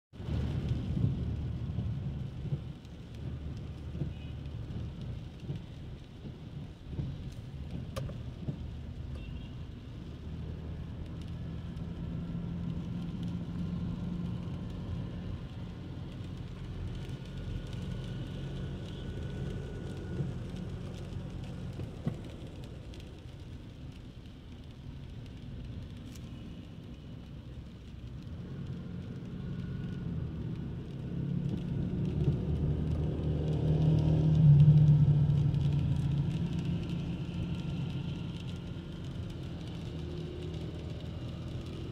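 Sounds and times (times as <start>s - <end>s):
rain falling on street: 0.2s - 41.9s
road traffic rumble: 0.2s - 41.9s
vehicle engine hum: 0.2s - 41.9s.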